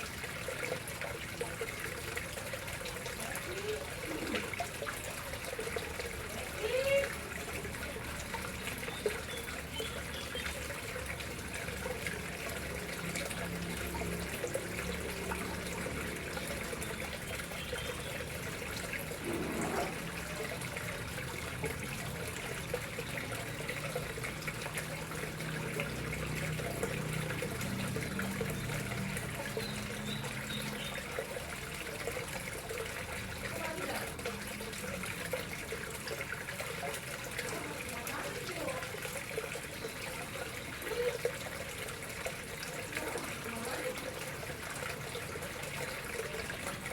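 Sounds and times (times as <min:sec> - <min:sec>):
water flowing and trickling: 0:00.0 - 0:46.9.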